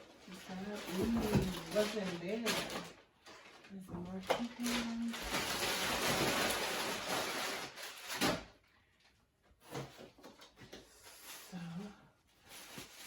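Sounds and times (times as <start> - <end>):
packaging rustling and crinkling: 0.0 - 11.5, 12.3 - 13.0.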